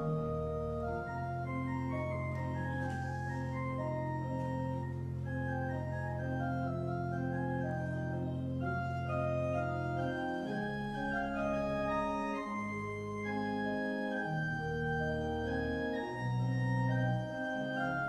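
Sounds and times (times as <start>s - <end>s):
church organ chords: 0.0s - 18.0s.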